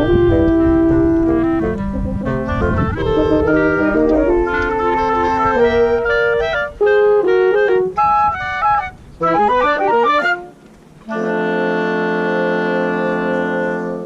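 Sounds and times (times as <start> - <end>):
woodwind quintet music: 0.0 - 14.0.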